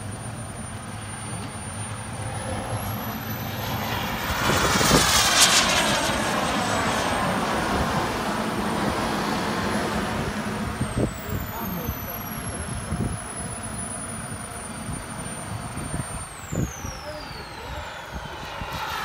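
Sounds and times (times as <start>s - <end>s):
model jet engine whine: 0.0s - 19.0s.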